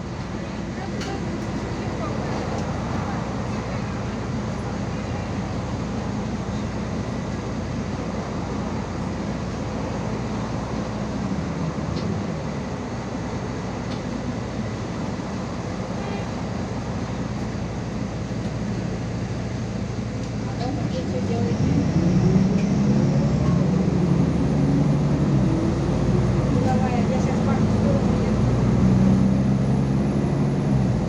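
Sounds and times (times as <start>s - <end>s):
road and body noise: 0.0s - 28.8s
bus engine drone: 0.0s - 31.0s.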